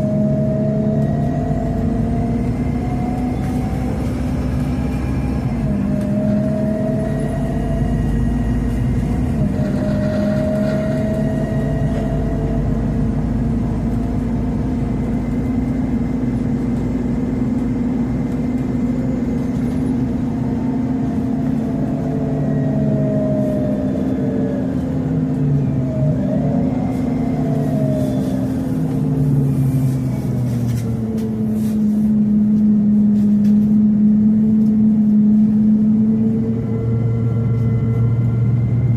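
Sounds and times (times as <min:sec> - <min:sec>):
bus engine running: 0:00.0 - 0:38.9.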